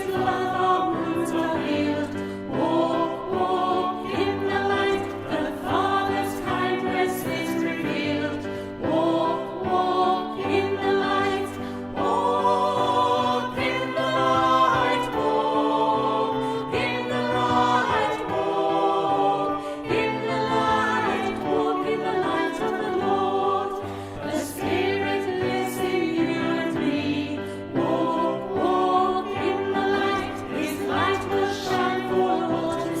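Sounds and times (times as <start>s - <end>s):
choir singing: 0.0s - 33.0s.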